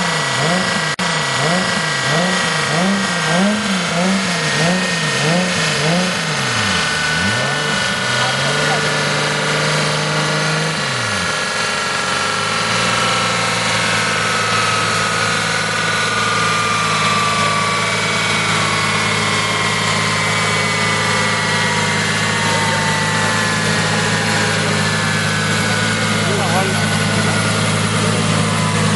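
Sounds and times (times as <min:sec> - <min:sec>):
car engine revving and idling: 0:00.0 - 0:28.9
high whine: 0:00.0 - 0:28.9.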